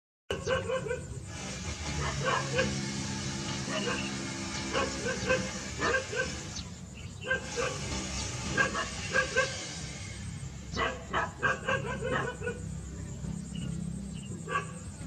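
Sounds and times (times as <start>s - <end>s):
steady low hum: 0.4s - 15.0s.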